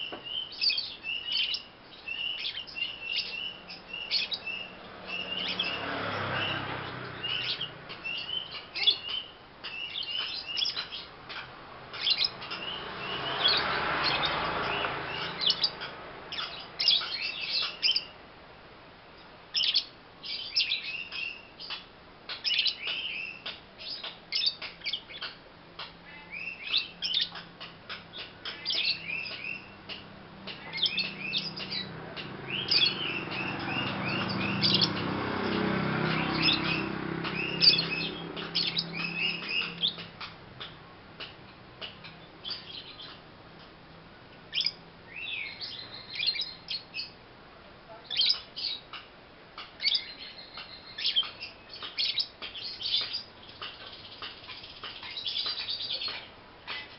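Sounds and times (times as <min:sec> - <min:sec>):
lovebird chirping: 0:00.0 - 0:11.2, 0:11.9 - 0:18.2, 0:19.5 - 0:25.4, 0:26.0 - 0:29.9, 0:30.6 - 0:40.5, 0:44.5 - 0:47.2, 0:49.6 - 0:56.9.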